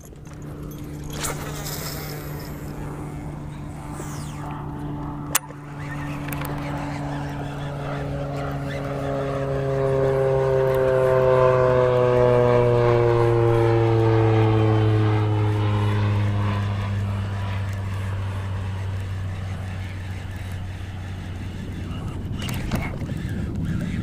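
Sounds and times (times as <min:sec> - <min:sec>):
propeller airplane engine drone: 0:00.0 - 0:24.0
steady low drone: 0:00.0 - 0:24.0.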